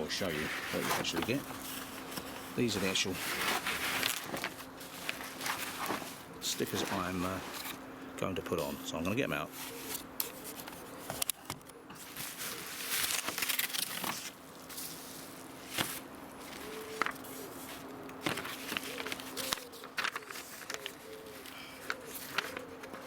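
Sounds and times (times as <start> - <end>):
packaging rustling and crackling: 0.0 - 7.8, 12.0 - 23.0.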